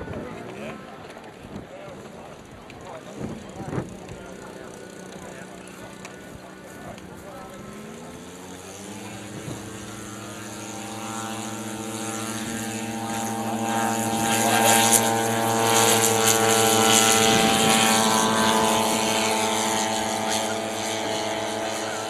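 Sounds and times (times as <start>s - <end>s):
model plane propeller engines droning: 0.0s - 22.0s.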